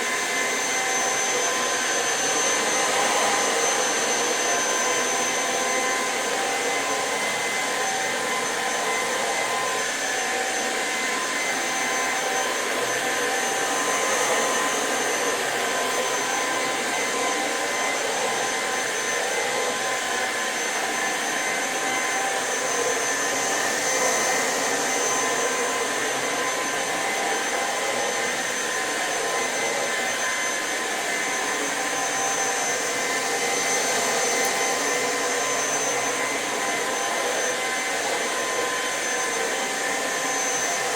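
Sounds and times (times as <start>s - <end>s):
cordless vacuum running: 0.0s - 40.9s.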